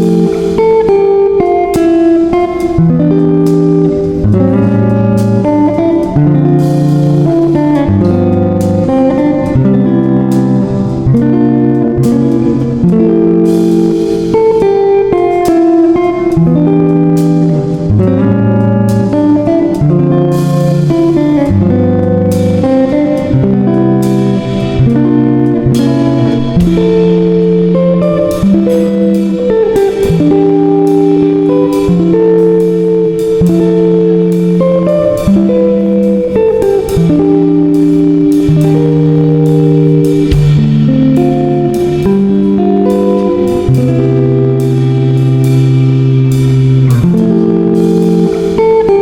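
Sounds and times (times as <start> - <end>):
guitar music: 0.0 - 49.0
steady drum beat: 0.0 - 49.0.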